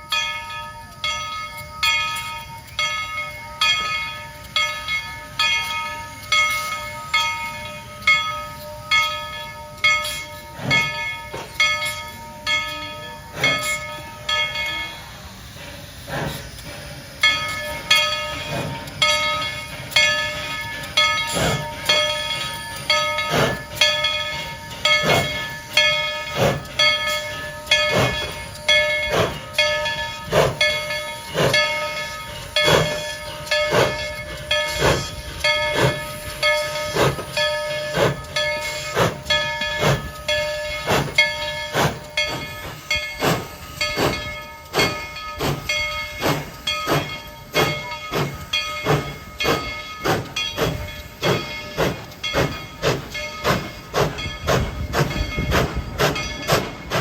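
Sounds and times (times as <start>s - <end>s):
steam locomotive exhaust chuffing: 0.0s - 57.0s
steady hissing tone: 0.3s - 57.0s.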